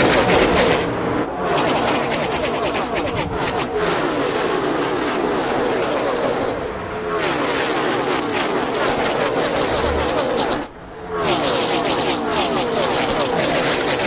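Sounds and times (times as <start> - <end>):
race car engines at speed: 0.0 - 14.0.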